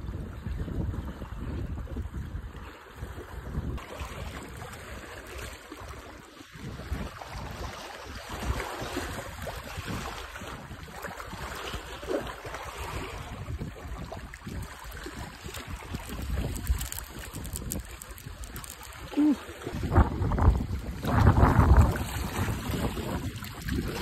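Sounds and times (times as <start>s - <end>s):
wind buffeting microphone: 0.0s - 3.8s, 6.6s - 24.0s
small waves lapping on rocks: 2.5s - 24.0s.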